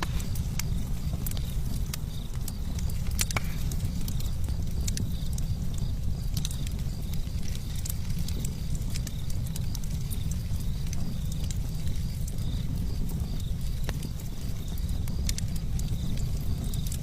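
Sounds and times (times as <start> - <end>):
fire crackling and popping: 0.0 - 17.0
wind rumble on microphone: 0.0 - 17.0.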